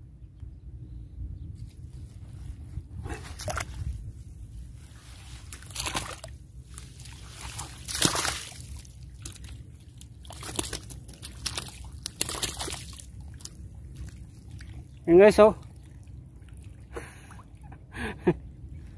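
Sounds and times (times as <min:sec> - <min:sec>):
muddy water sloshing and splashing: 0:01.8 - 0:17.8.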